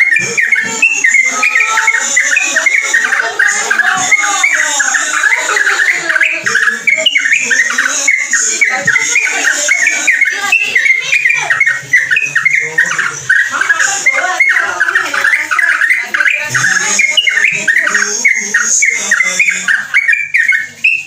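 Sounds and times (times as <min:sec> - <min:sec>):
bulbul chattering song: 0:00.0 - 0:21.0.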